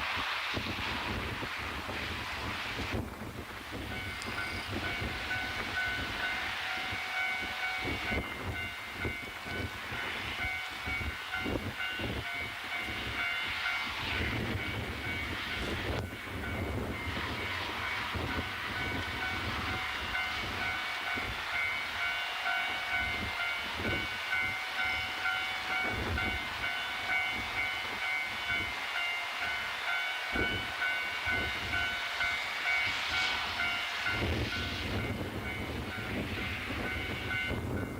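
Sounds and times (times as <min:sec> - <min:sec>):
wind buffeting microphone: 0:00.0 - 0:29.6, 0:30.3 - 0:37.9
diesel train running: 0:00.0 - 0:37.9.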